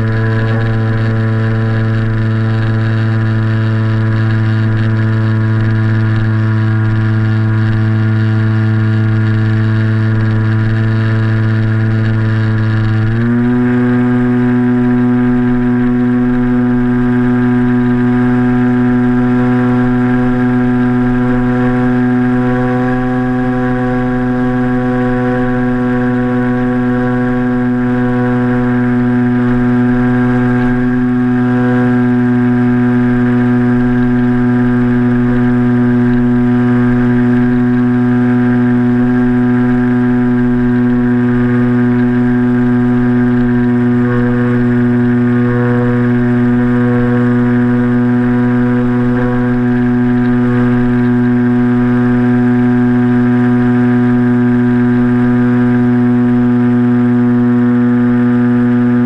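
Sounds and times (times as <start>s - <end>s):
model plane motor and propeller drone: 0.0s - 59.0s.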